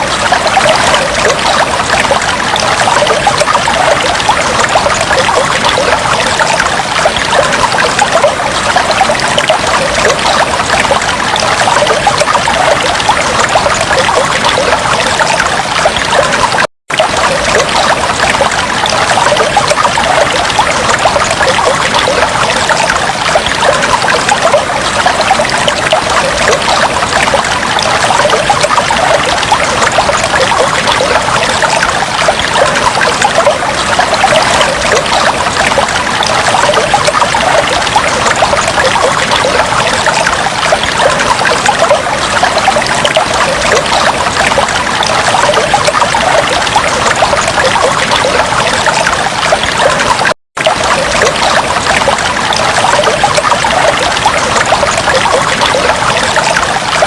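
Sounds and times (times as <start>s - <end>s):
aquarium water bubbling: 0.0s - 57.0s.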